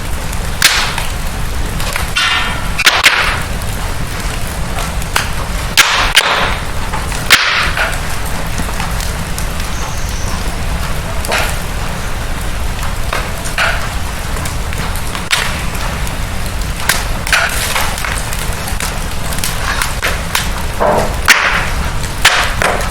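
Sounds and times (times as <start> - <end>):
fire snaps and pops: 0.0 - 22.9
wood fire crackling: 0.0 - 22.9.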